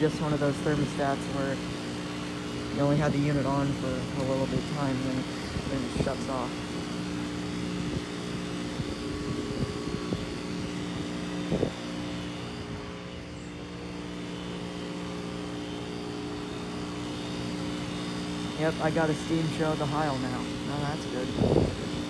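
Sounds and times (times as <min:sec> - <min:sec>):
heat pump units humming: 0:00.0 - 0:22.0.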